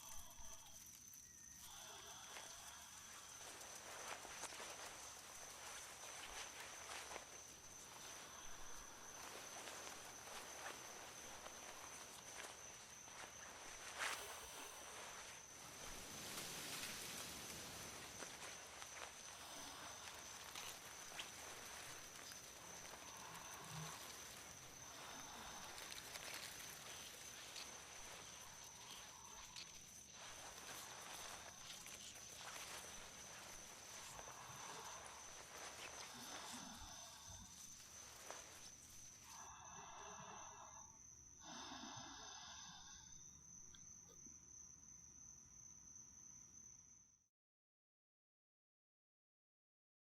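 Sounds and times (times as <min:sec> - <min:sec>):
soft breathy swells: 0:00.0 - 0:43.4
soft even hiss: 0:00.0 - 0:44.2
crickets trilling: 0:00.0 - 0:47.2.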